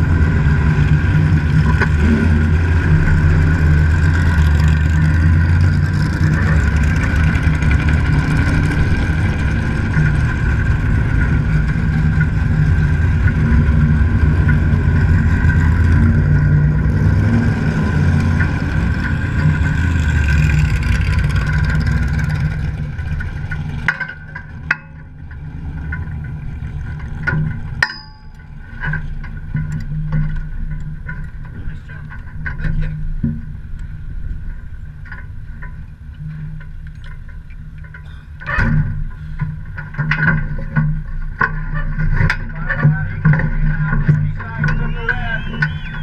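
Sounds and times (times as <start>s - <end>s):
race car engine idling: 0.0s - 46.0s.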